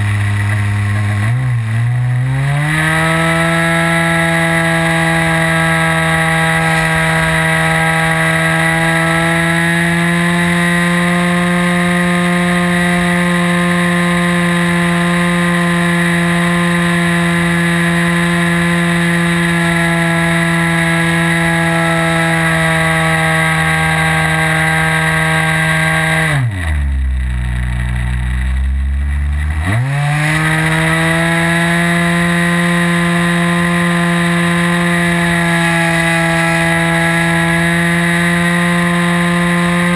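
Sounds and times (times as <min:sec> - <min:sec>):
model plane engine revving: 0:02.1 - 0:26.5, 0:29.6 - 0:39.9.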